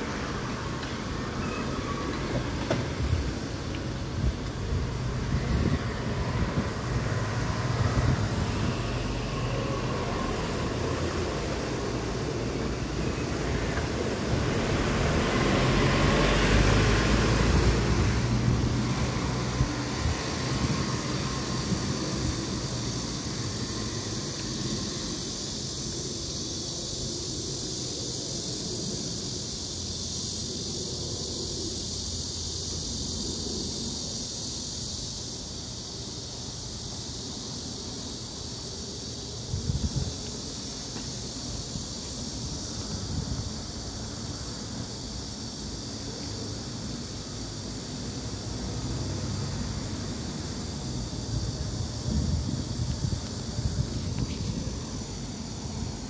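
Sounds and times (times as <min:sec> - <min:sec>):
traffic rumble: 0:00.0 - 0:56.0.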